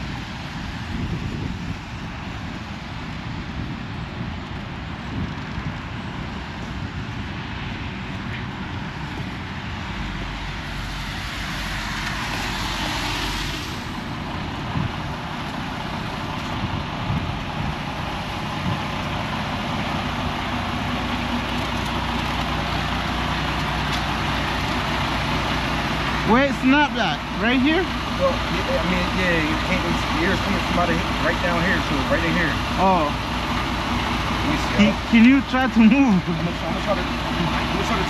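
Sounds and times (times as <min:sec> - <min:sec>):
constant rushing noise: 0:00.0 - 0:38.0
diesel truck engine running: 0:00.0 - 0:38.0.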